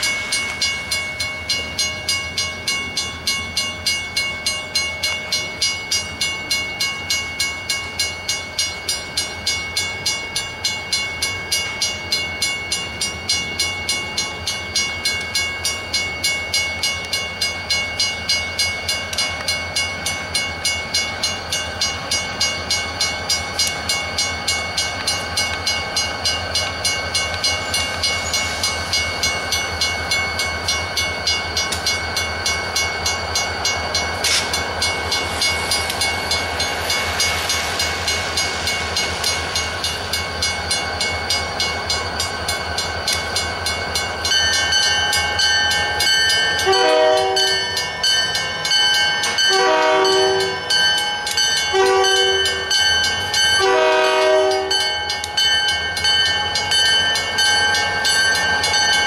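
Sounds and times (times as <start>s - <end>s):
railroad crossing bell ringing: 0.0s - 59.0s.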